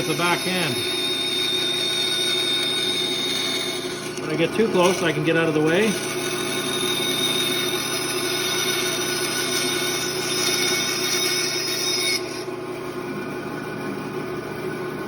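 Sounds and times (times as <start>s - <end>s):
bandsaw cutting wood whine: 0.0s - 14.9s
bandsaw motor running: 0.0s - 15.0s.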